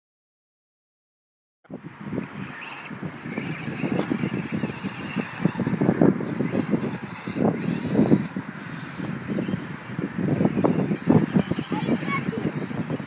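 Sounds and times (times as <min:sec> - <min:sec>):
rc truck motor rumbling: 0:02.1 - 0:13.0.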